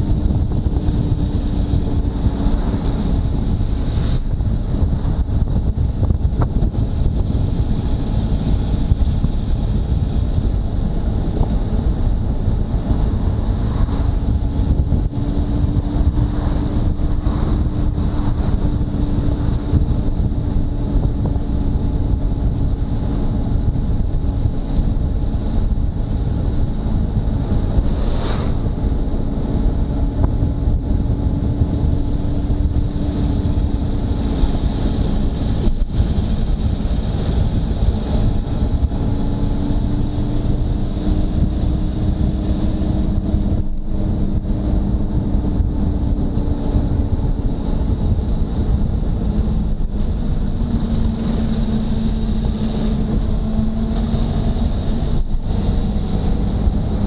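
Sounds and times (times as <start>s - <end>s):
motorcycle engine cruising: 0.0s - 57.0s
wind rushing over microphone: 0.0s - 57.0s.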